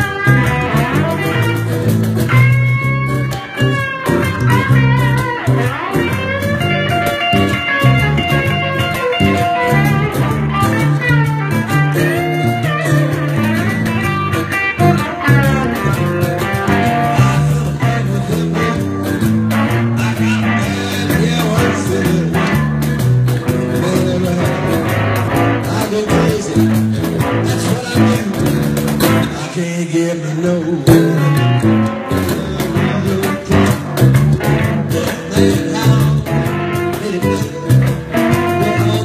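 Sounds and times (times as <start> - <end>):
stepping bass line: 0.0 - 29.6, 30.8 - 39.0
acoustic guitar: 0.0 - 39.0
electric guitar lead: 0.0 - 39.0.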